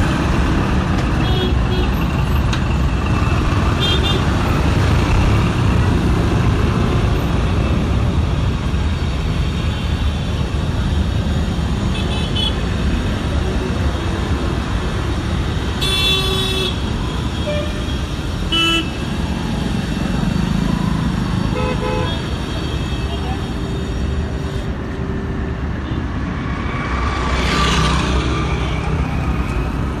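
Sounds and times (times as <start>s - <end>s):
traffic engine rumble: 0.0s - 30.0s.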